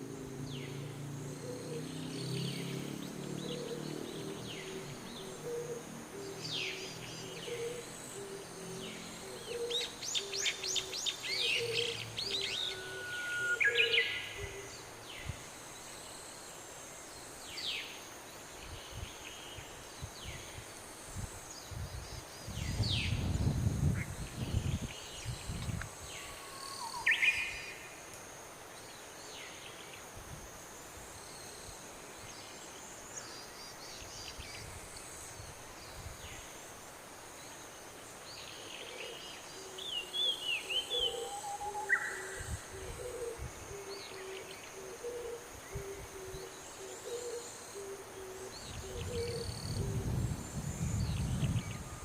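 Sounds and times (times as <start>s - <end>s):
high insect drone: 0.0s - 52.0s.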